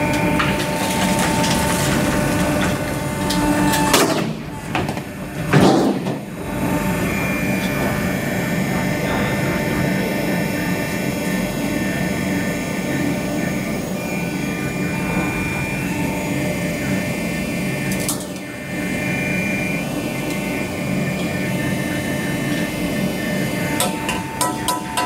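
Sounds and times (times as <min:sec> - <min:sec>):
hydraulic shear motor humming: 0:00.0 - 0:25.0.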